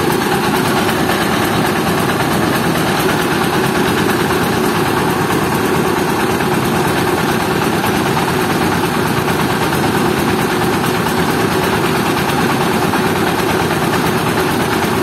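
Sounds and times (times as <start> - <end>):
rice mill engine droning: 0.0 - 15.0.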